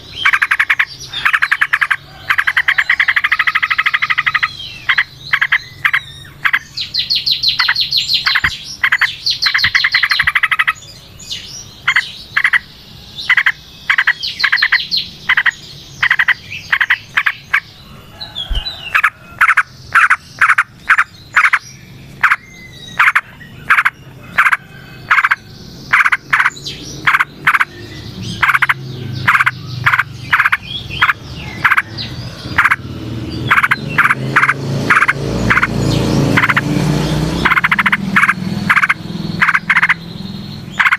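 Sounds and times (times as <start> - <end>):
frogs croaking: 0.0 - 11.0, 11.6 - 40.9
bird singing rattling phrases: 0.0 - 40.9.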